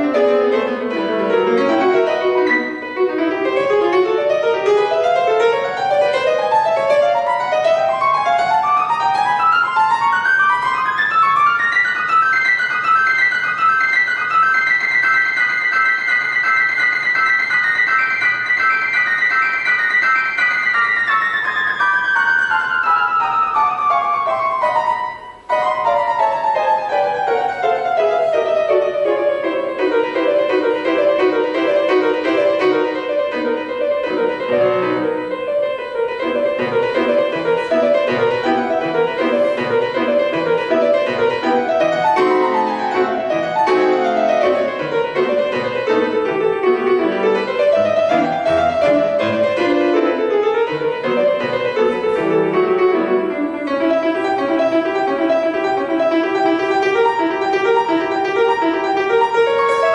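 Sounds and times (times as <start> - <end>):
solo piano fast runs: 0.0 - 59.9.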